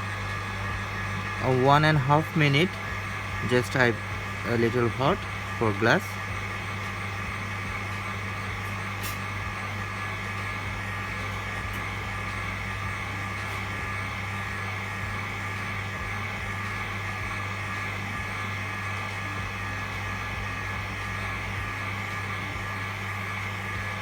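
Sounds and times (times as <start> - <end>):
hot air gun blowing: 1.1 - 24.0.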